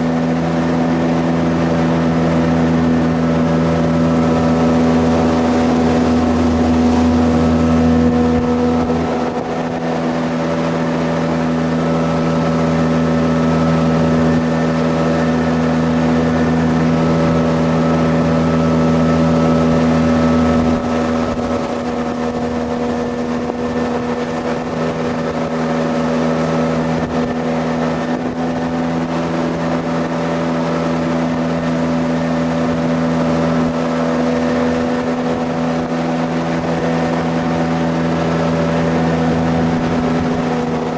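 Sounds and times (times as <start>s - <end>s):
boat engine drone: 0.0s - 40.9s
rushing water and air: 0.0s - 40.9s.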